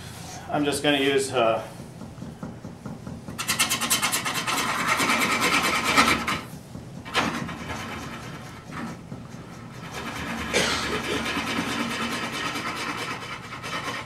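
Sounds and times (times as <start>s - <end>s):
tool scraping wood on a lathe: 1.5s - 14.0s.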